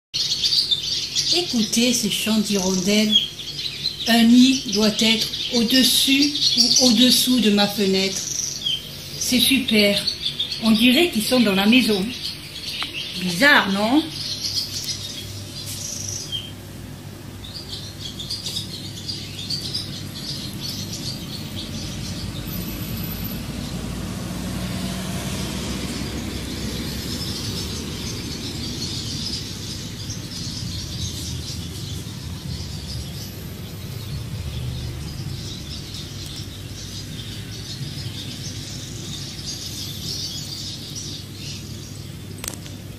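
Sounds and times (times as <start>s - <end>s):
street traffic rumble: 0.2s - 42.9s
swallows chirping and twittering: 0.2s - 42.9s.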